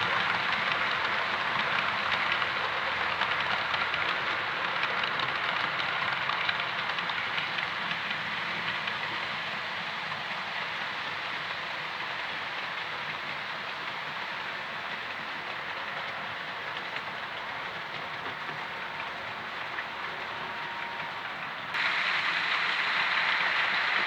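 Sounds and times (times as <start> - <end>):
model train whirring rattle: 0.0 - 24.0.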